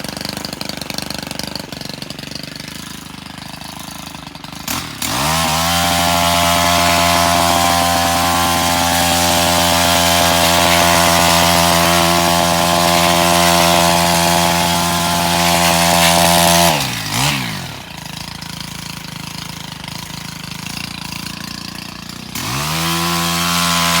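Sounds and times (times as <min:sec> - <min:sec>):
small petrol engine revving: 0:00.0 - 0:24.0.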